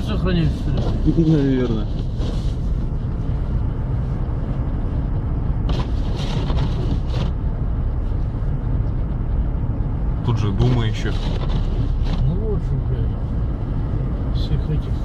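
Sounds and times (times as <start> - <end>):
car engine drone inside cabin: 0.0 - 15.0.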